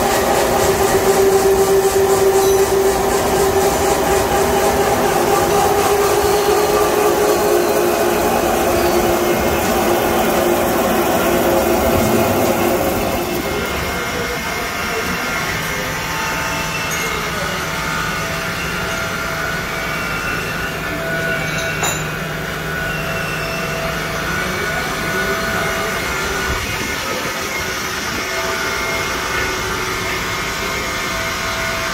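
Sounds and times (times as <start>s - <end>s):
drilling machine whining: 0.0s - 31.9s.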